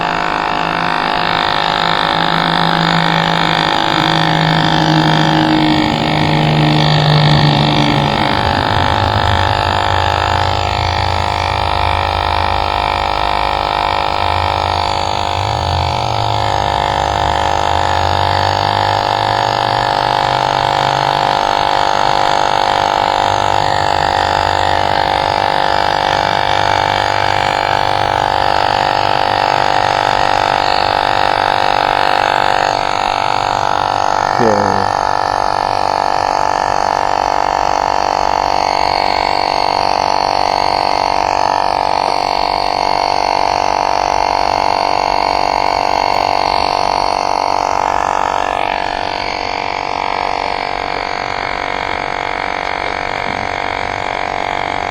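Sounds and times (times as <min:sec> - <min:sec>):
electric tire inflator droning: 0:00.0 - 0:54.9.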